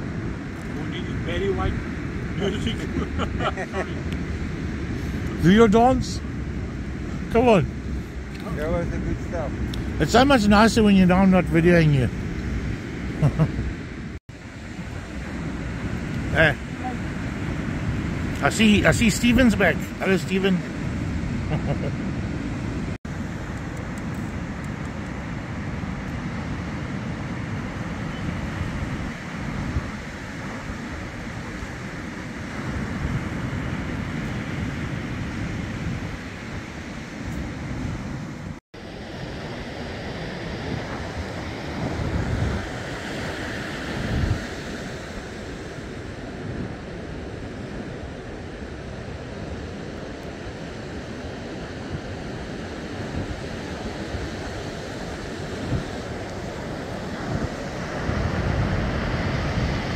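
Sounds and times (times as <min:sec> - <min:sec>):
sea surf on shore: 0:00.0 - 0:59.9
wind gusting on microphone: 0:00.0 - 0:59.9.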